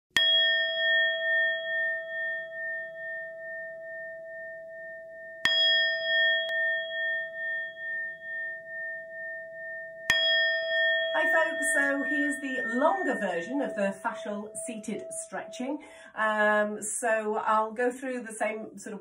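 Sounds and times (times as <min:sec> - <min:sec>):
singing bowl ringing: 0:00.1 - 0:17.2.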